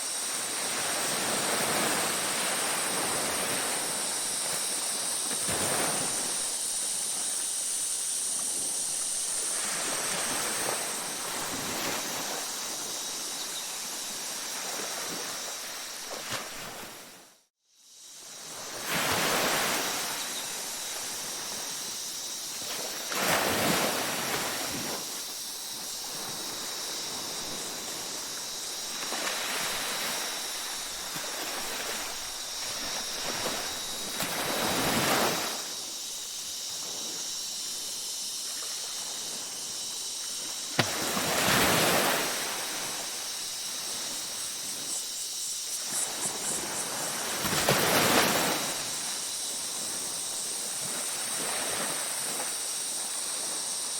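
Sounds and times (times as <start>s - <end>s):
waves washing onto a beach: 0.0s - 17.3s, 18.2s - 45.0s, 45.7s - 53.9s.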